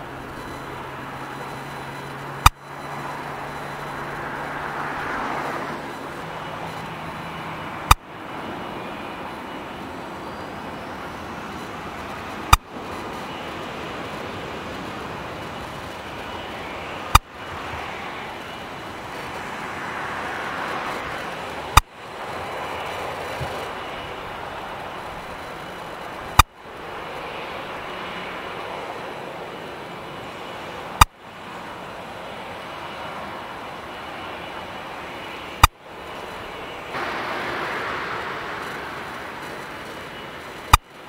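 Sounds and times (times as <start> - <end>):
jet engines taxiing: 0.0 - 41.0
low vehicle hum: 0.0 - 41.0.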